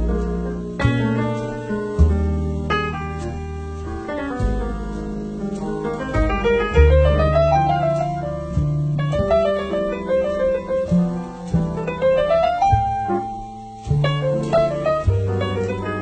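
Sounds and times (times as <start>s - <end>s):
jazz piano trio ballad: 0.0s - 16.0s.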